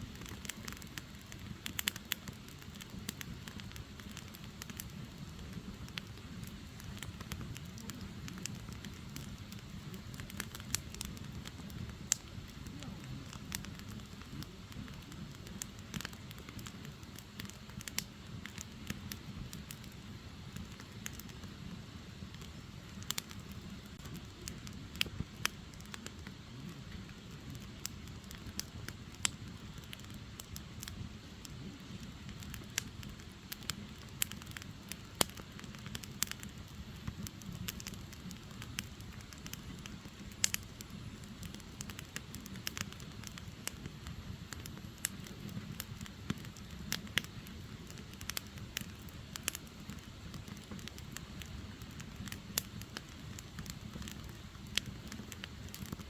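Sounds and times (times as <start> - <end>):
firewood crackling and popping: 0.0 - 56.0
flames rushing: 0.0 - 56.0.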